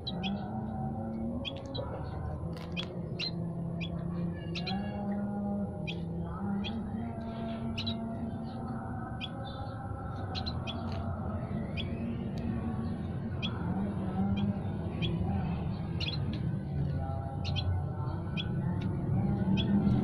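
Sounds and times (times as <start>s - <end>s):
low steady drone: 0.0s - 20.0s
songbirds chirping: 0.0s - 20.0s.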